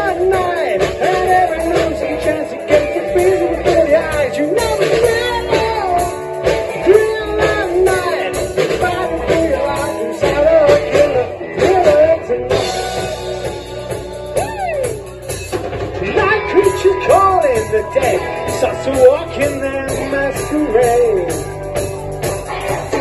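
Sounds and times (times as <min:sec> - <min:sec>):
person singing: 0:00.0 - 0:15.2, 0:16.0 - 0:21.8
drum kit with cymbals: 0:00.0 - 0:23.0.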